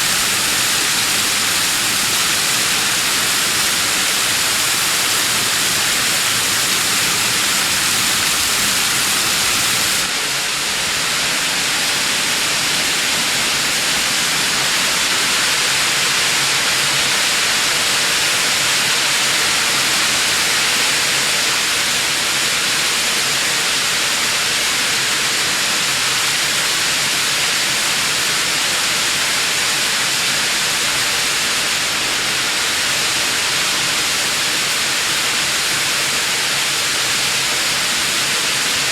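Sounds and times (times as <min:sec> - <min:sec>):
waterfall hissing and splashing: 0:00.0 - 0:38.9.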